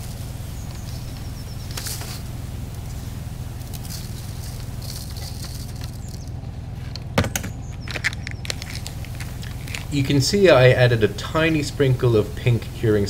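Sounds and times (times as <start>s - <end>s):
grains pattering: 0.0s - 13.0s
steady low hum: 0.0s - 13.0s.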